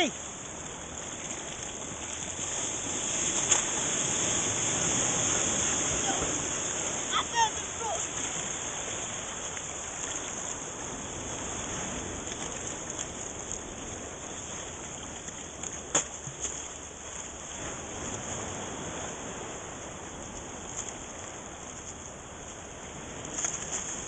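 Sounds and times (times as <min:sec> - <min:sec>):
water sloshing from wading: 0:00.0 - 0:24.0.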